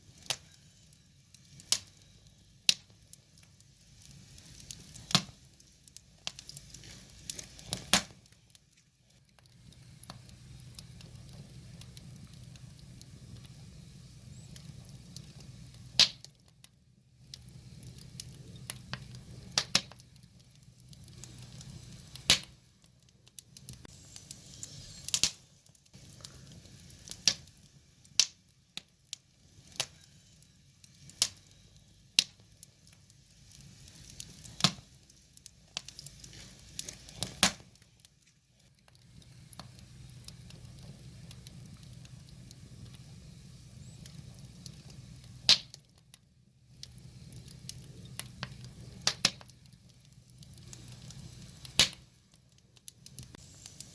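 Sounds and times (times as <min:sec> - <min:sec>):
fire crackling and popping: 0:00.0 - 0:53.9
low steady fire rumble: 0:00.0 - 0:53.9.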